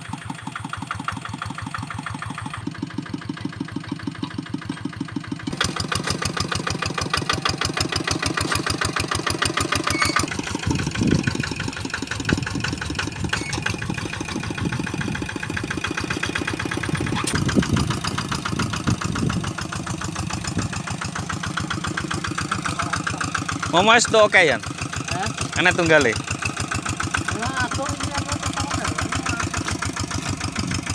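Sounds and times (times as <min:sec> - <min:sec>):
hand tractor engine chugging: 0:00.0 - 0:30.9.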